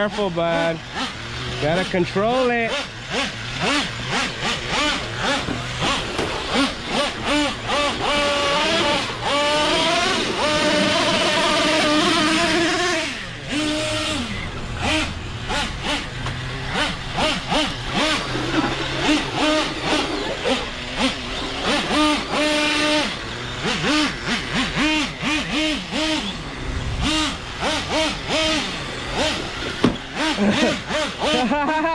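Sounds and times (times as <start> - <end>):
rc truck engine revving: 0.0 - 31.9.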